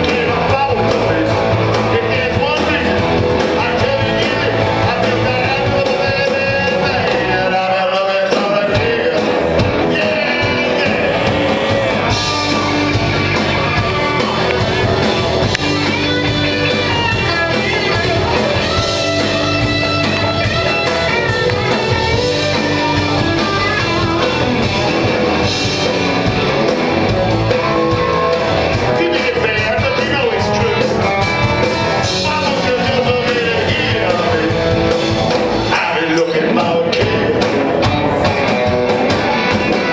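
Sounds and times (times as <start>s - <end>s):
man singing: 0.0s - 24.4s, 28.8s - 38.2s
bass guitar: 0.0s - 39.9s
drums: 0.0s - 39.9s
electric guitars: 0.0s - 39.9s.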